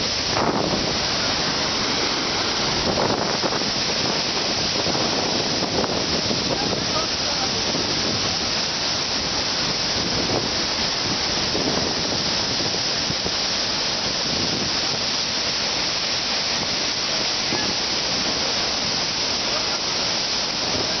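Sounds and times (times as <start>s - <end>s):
water pouring down waterfall: 0.0s - 21.0s.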